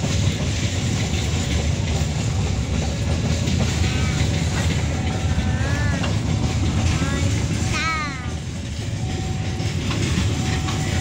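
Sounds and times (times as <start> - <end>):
rattling clicks of wheels: 0.0 - 11.0
train wagons rumbling on rails: 0.0 - 11.0.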